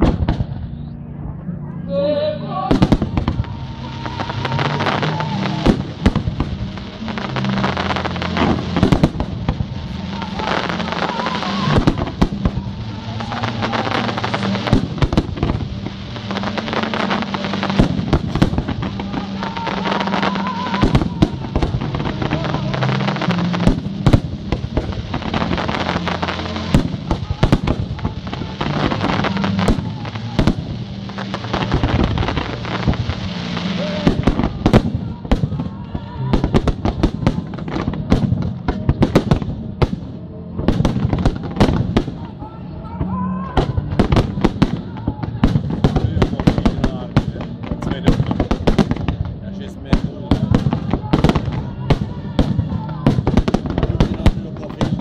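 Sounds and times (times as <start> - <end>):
fireworks bangs and crackling: 0.0 - 0.9, 2.7 - 55.0.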